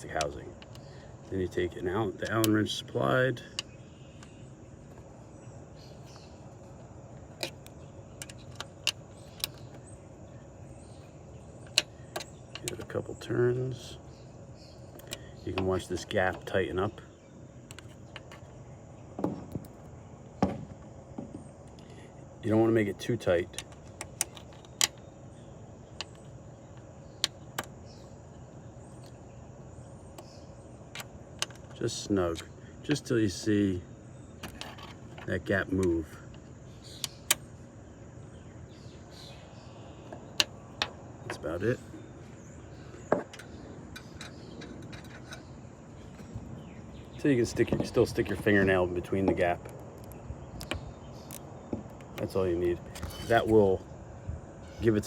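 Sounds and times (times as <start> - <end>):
faint background noise: 0.0 - 55.0
steady low hum: 0.0 - 55.0.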